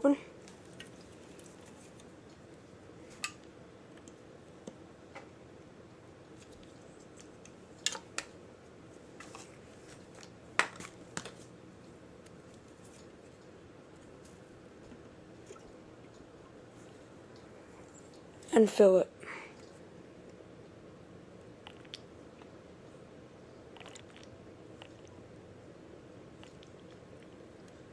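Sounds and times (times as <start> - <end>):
faint steady hiss: 0.0 - 27.9.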